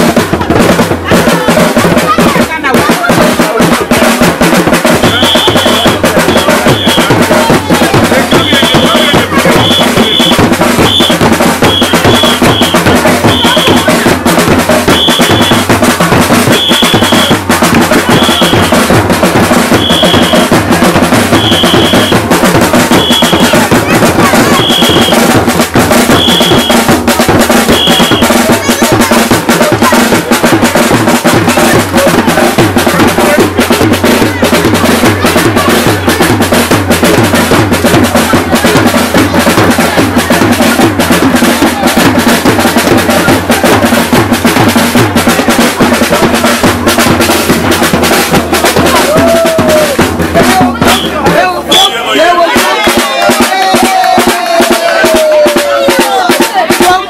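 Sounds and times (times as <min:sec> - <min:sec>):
loud music with heavy drums: 0:00.0 - 0:57.0.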